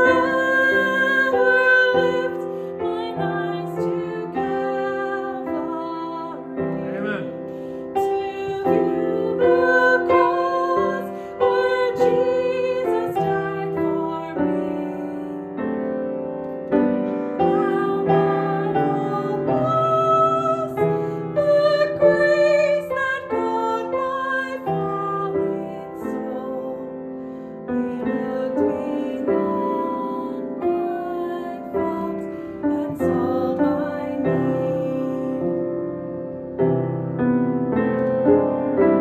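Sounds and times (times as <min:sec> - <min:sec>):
woman singing with vibrato: 0:00.0 - 0:06.9, 0:07.8 - 0:15.5, 0:17.4 - 0:26.9, 0:27.7 - 0:35.5
piano: 0:00.0 - 0:39.0.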